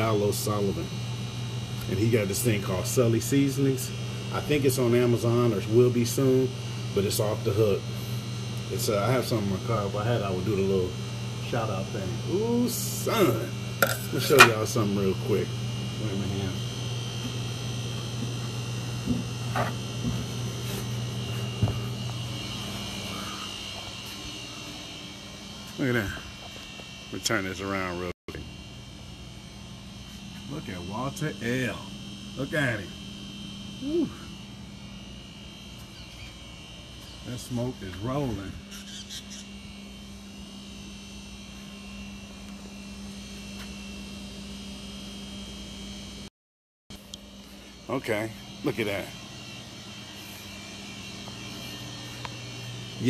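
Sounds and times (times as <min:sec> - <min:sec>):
low electrical hum: 0:00.0 - 0:46.3, 0:46.9 - 0:53.0.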